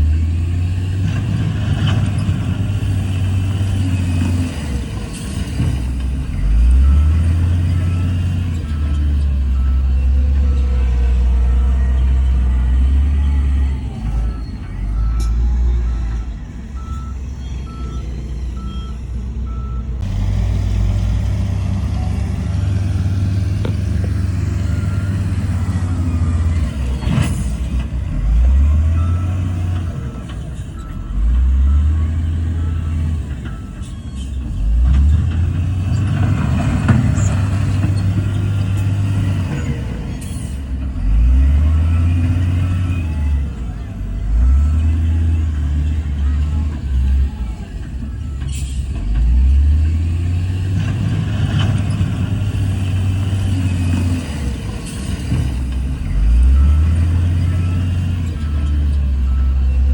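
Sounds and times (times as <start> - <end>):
heavy diesel machinery engines: 0.0 - 59.9
faint reversing alarm beeps: 3.4 - 20.0, 23.8 - 34.7, 38.2 - 50.8, 51.8 - 59.9.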